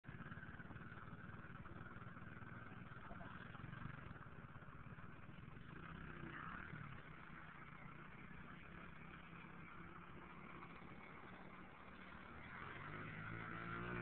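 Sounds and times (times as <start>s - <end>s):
small engines puttering: 0.0s - 14.0s.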